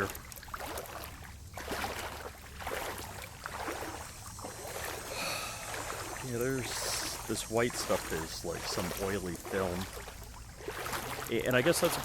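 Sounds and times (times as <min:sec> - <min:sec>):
legs wading through water: 0:00.0 - 0:12.0.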